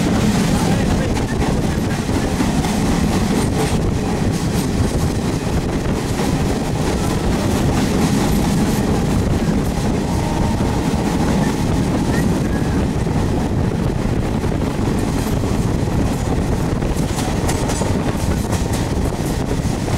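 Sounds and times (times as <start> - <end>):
train wheels rumbling and rattling: 0.0 - 19.9
wind noise: 0.0 - 19.9.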